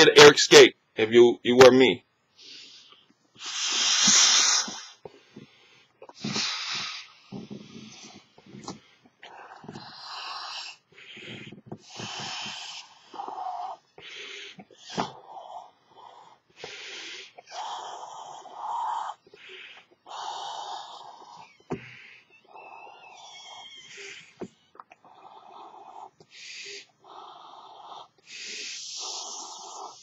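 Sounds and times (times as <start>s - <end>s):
man blowing up balloon: 2.4s - 30.0s.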